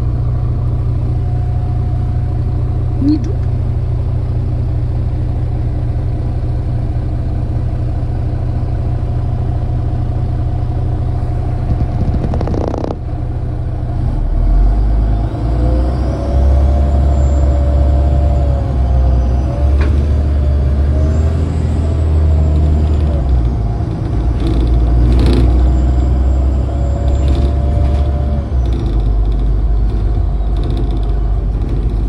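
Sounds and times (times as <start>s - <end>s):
bus engine: 0.0s - 32.0s
engine whine: 0.0s - 32.0s.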